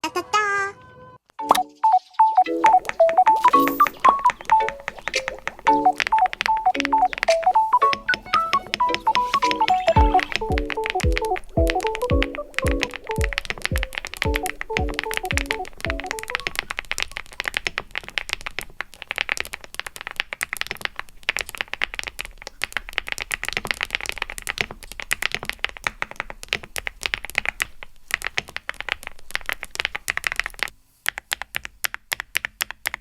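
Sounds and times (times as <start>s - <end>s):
background hiss: 1.4s - 33.0s
typing on mechanical keyboard: 2.6s - 33.0s.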